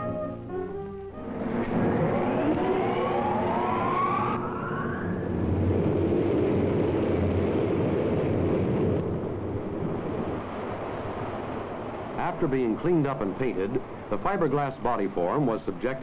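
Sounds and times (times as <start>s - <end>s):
large fan spinning up: 0.0s - 15.8s.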